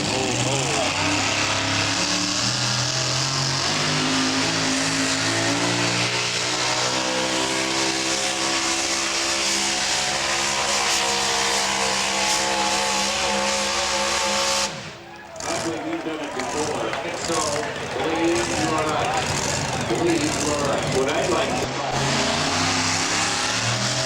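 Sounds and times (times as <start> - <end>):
pulling truck engine at full power: 0.0 - 24.0.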